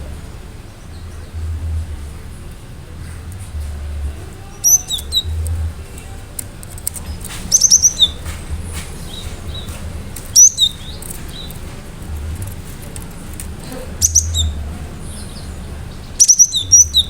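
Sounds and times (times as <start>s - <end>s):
low background rumble: 0.0s - 17.0s
tit calling high notes: 0.0s - 17.0s.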